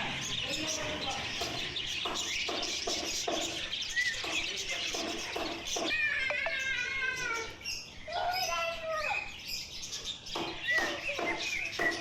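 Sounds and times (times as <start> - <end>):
caged birds chirping chatter: 0.0 - 12.0.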